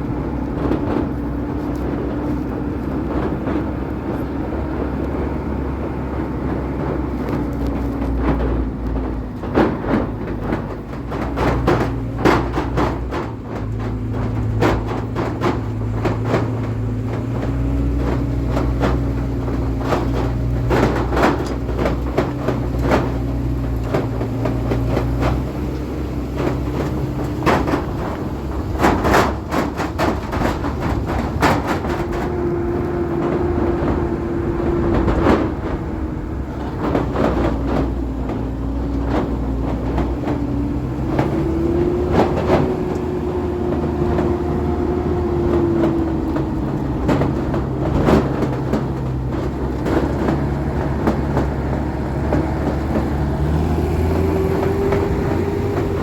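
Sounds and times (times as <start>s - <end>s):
rattles and knocks: 0.0s - 56.0s
vehicle engine drone: 0.0s - 56.0s.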